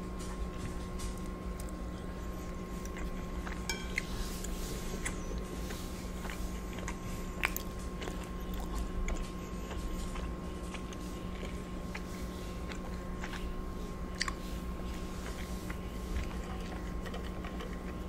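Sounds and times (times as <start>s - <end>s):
steady hum: 0.0s - 18.0s
close chewing: 0.1s - 18.0s.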